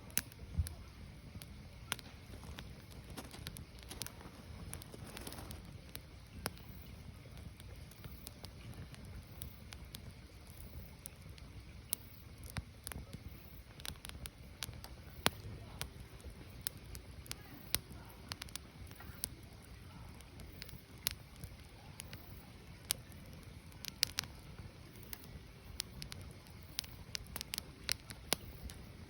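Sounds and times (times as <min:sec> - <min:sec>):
low fire rumble: 0:00.0 - 0:29.0
wood fire crackling and popping: 0:00.0 - 0:29.0.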